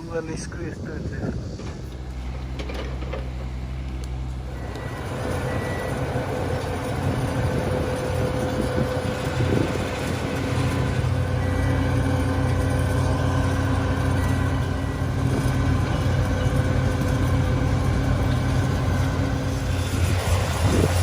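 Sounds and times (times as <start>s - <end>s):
heavy machinery engine rumble: 0.0s - 21.0s
whining tones: 1.6s - 21.0s.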